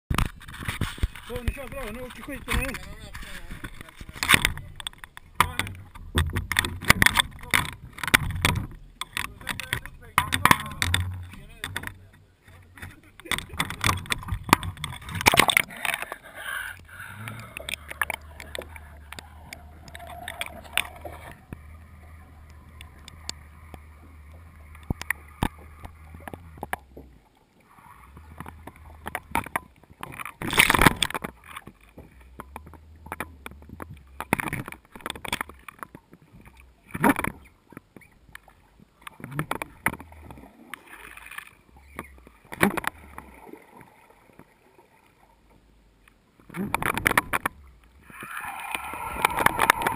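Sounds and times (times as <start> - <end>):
underwater gurgling: 0.1 - 49.9
low underwater hum: 0.2 - 49.9.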